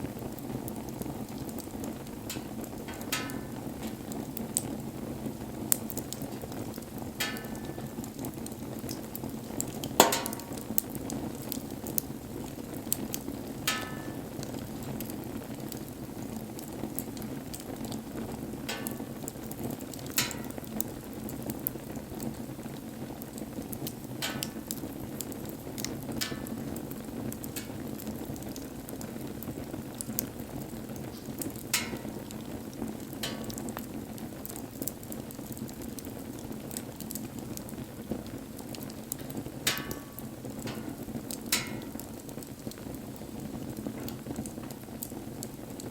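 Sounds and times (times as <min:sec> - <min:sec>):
bonfire crackling and popping: 0:00.0 - 0:45.9.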